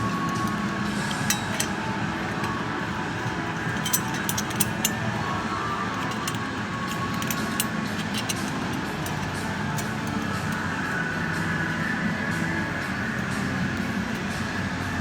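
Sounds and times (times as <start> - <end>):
metallic clicks and clinks: 0.0 - 15.0
steady background noise: 0.0 - 15.0.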